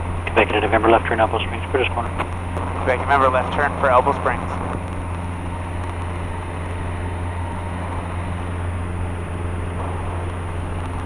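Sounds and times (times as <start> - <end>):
light aircraft engine drone in cabin: 0.0 - 11.0.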